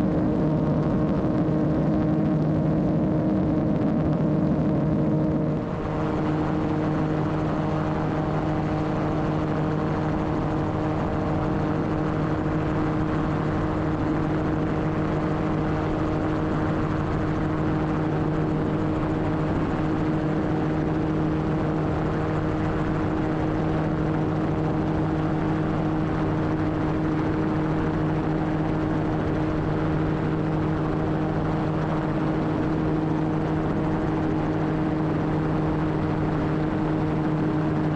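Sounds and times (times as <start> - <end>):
gyroplane engine and propeller drone: 0.0 - 37.9.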